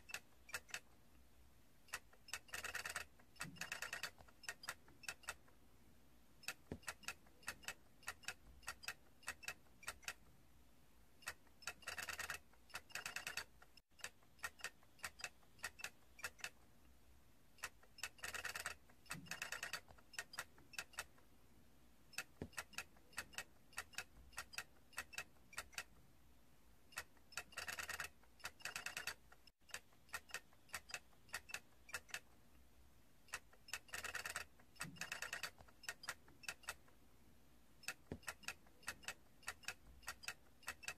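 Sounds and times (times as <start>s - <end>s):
plastic toy clicking: 0.0s - 0.9s, 1.9s - 5.5s, 6.4s - 10.2s, 11.2s - 16.6s, 17.6s - 21.2s, 22.1s - 25.9s, 26.9s - 32.3s, 33.3s - 36.9s, 37.8s - 40.9s.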